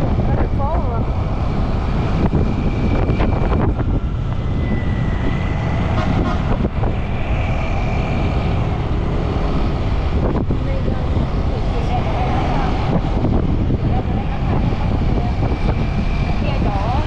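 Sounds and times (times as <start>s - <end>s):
motorcycle engine and road rumble: 0.0s - 17.0s
wind buffeting microphone: 0.0s - 17.0s.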